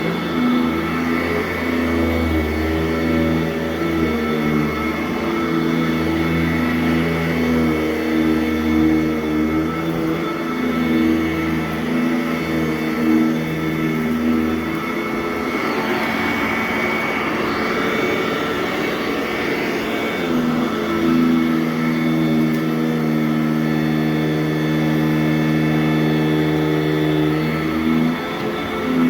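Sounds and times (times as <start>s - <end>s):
vacuum cleaner running on carpet: 0.0s - 29.0s.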